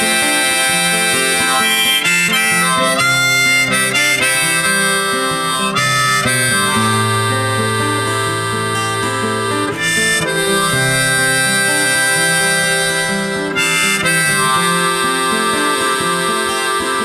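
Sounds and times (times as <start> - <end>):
acoustic guitar: 0.0 - 17.0
harmonica melody: 0.0 - 17.0.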